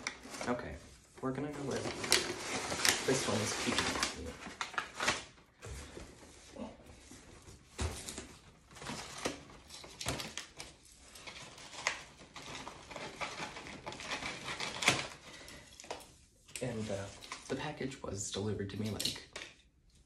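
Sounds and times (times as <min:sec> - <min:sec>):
packing paper rustling: 0:00.0 - 0:17.6.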